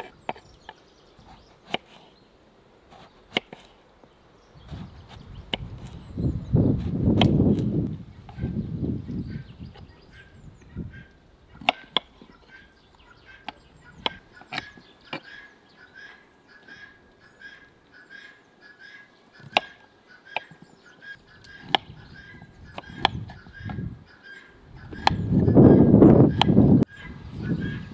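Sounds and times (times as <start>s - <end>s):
birds chirping: 0.0s - 27.9s.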